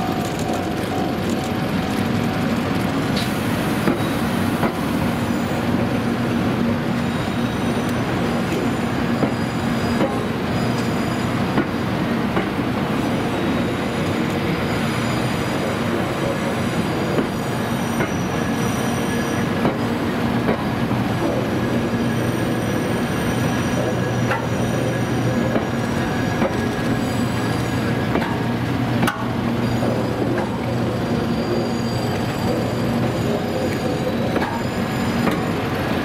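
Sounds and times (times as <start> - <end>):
train rumbling: 0.0 - 36.0
train wheels squealing: 3.2 - 5.8, 6.8 - 11.8, 13.0 - 28.6, 29.2 - 36.0.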